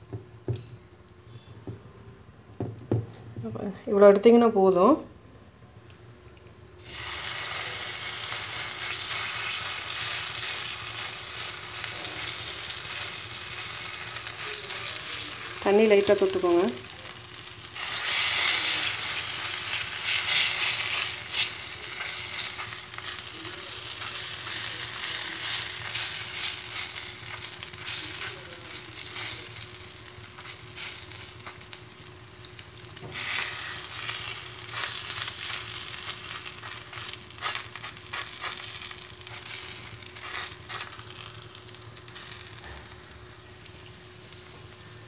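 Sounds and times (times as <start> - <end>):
dough sizzling on hot pan: 6.8 - 45.0.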